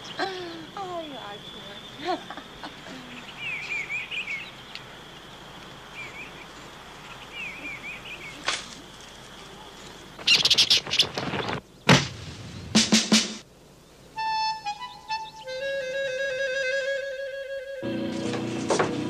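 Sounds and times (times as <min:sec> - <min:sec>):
birds chirping: 0:00.0 - 0:13.0, 0:13.6 - 0:16.5
background hiss: 0:00.0 - 0:18.9.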